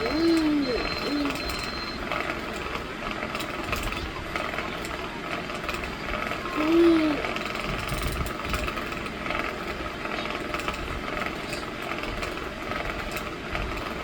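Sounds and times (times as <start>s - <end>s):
electric fan running: 0.0s - 14.0s
fine mechanical rattle: 0.0s - 14.0s.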